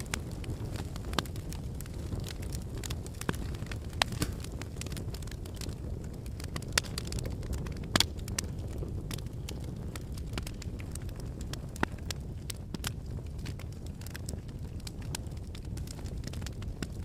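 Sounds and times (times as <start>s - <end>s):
logs crackling and popping: 0.0s - 17.0s
wood fire rumbling: 0.0s - 17.0s.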